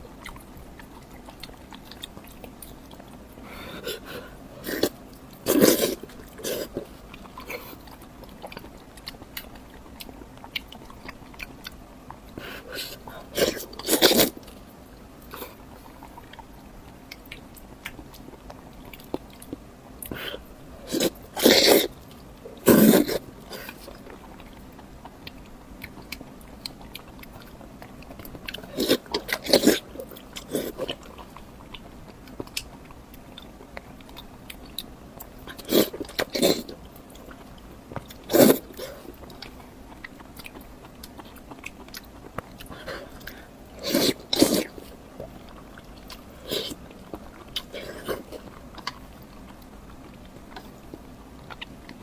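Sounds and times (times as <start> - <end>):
biting and chewing: 0.0 - 52.0.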